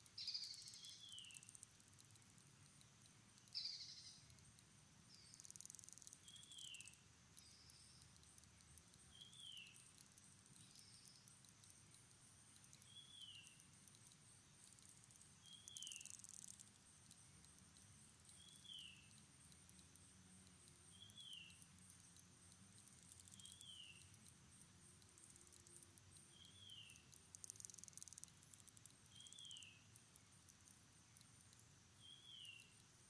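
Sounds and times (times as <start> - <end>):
insect buzz: 0.0 - 33.0.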